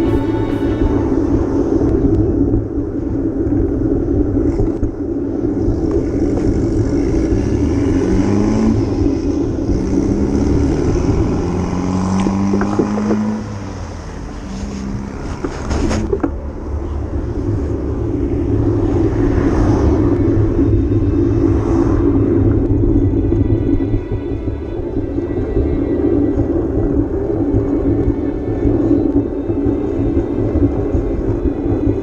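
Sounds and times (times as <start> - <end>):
vehicle engine rising in pitch: 0.0 - 4.4, 5.4 - 32.0
road and wind noise: 0.0 - 32.0.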